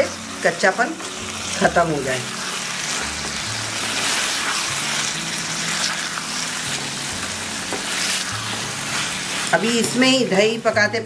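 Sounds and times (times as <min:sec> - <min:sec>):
curry sizzling in a pan: 0:00.0 - 0:11.0.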